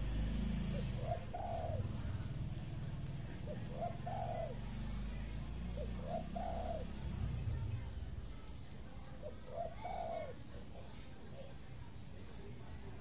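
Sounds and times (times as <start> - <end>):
dove cooing: 0.0 - 7.6, 8.8 - 11.7.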